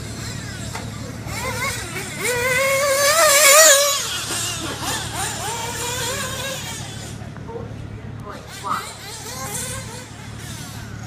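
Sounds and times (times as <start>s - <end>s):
rc buggy nitro engine screaming: 0.0s - 7.2s, 8.4s - 11.0s.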